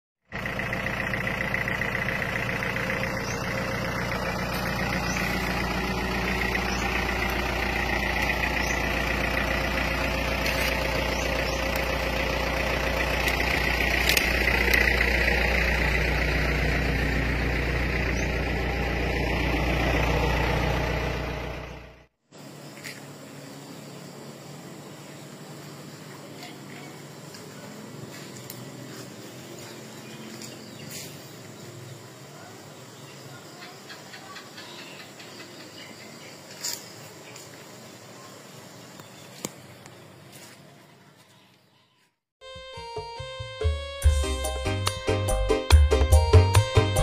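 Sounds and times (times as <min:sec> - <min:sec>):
bus diesel engine idling: 0:00.2 - 0:41.7.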